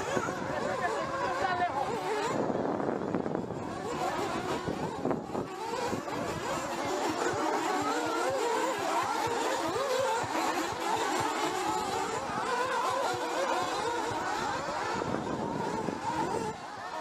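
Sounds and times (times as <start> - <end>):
rc car engines buzzing: 0.0 - 17.0.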